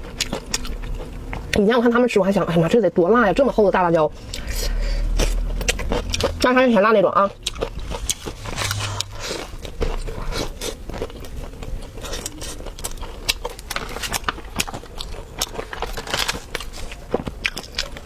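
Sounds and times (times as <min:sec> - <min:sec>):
person chewing crunchy food: 0:00.0 - 0:01.6, 0:04.2 - 0:18.0.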